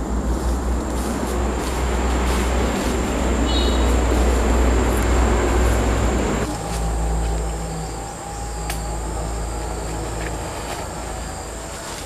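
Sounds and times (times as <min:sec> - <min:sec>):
low rumble: 0:00.0 - 0:11.6
insects droning: 0:00.0 - 0:12.0.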